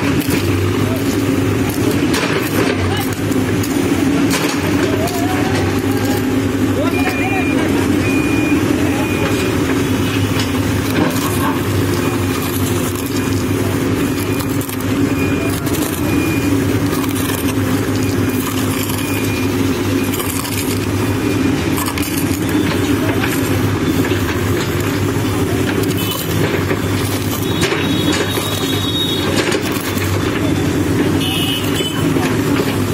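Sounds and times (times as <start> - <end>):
diesel engine running under load: 0.0 - 32.9.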